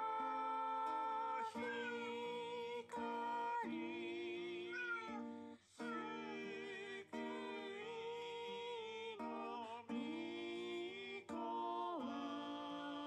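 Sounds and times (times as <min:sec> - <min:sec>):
recorded song with singing: 0:00.0 - 0:13.0.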